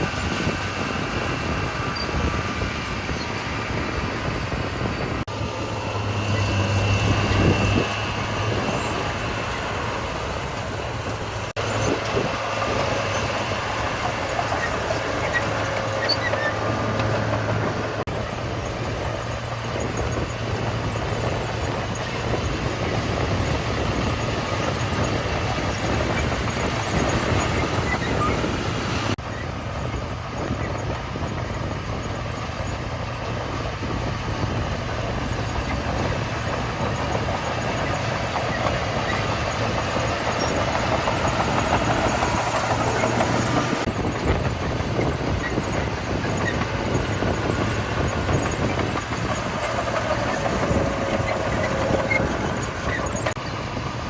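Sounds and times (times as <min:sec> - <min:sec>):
diesel construction machinery rumbling: 0:00.0 - 0:54.0.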